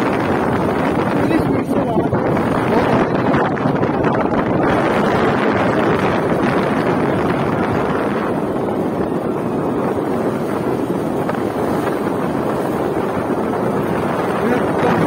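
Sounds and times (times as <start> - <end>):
rumble of motorbike ride: 0.0 - 15.0
wind buffeting microphone: 0.0 - 15.0.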